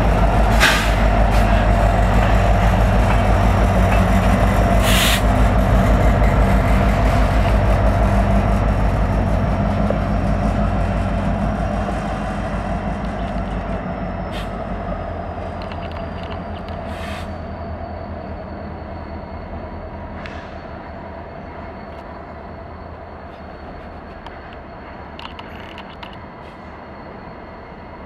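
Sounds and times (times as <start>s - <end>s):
diesel locomotive humming: 0.0s - 28.0s
freight train rolling: 0.0s - 28.0s
metallic clanks from train: 0.0s - 28.0s.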